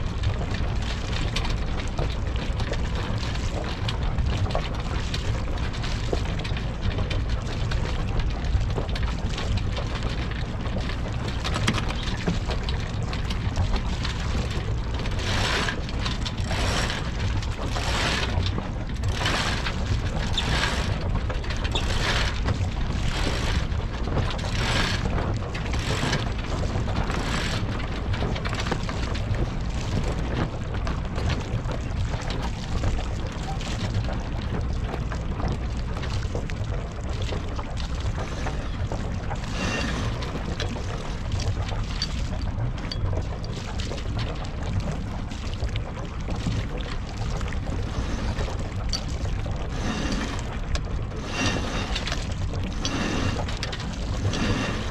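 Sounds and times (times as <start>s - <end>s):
boat engine running: 0.0s - 54.9s
water noise: 0.0s - 54.9s
wind: 0.0s - 54.9s.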